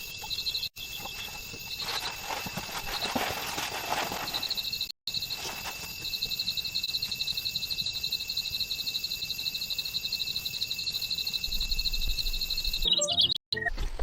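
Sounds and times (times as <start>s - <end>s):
insects trilling: 0.0s - 12.9s.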